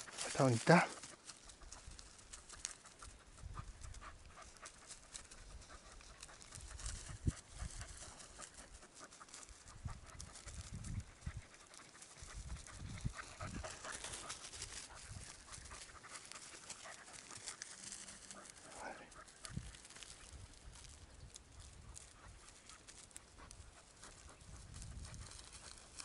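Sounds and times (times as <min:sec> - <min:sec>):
dog panting: 0:00.0 - 0:20.3, 0:21.6 - 0:26.0
crackling and rustling: 0:00.0 - 0:26.0.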